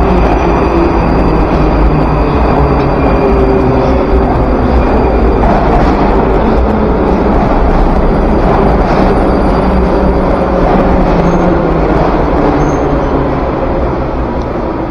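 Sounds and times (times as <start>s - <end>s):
metro train slowing to a stop: 0.0s - 14.9s.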